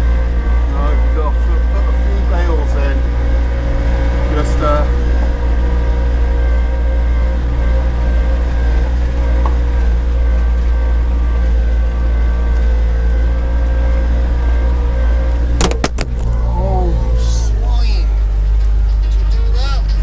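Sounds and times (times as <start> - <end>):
engine rumbling from inside cab: 0.0 - 20.0.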